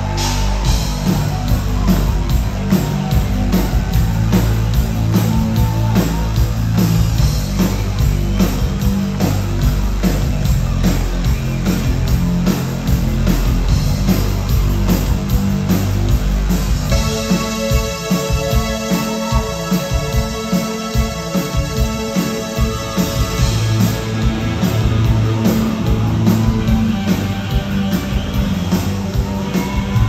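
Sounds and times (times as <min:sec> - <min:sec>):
bass and guitar: 0:00.0 - 0:30.0
driving drum beat: 0:00.0 - 0:30.0.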